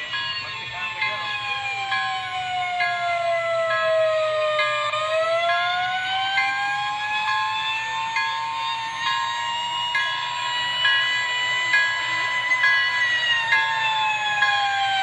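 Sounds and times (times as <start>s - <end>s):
electronic fire siren wailing: 0.0s - 15.0s.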